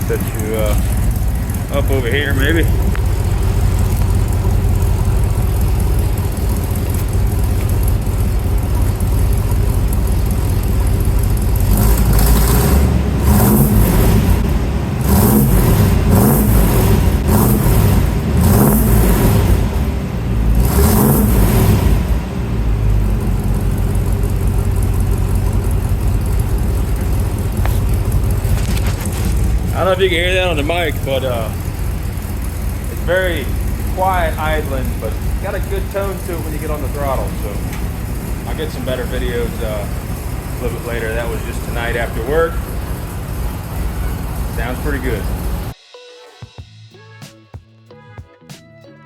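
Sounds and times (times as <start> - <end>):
engine throttle blips: 0.0 - 45.8
pickup engine idling: 0.0 - 45.8.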